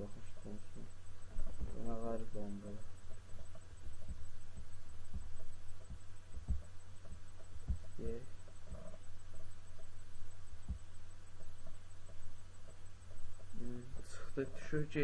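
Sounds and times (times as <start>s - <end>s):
low hum: 0.0s - 15.0s
soft low thumps: 0.0s - 15.0s.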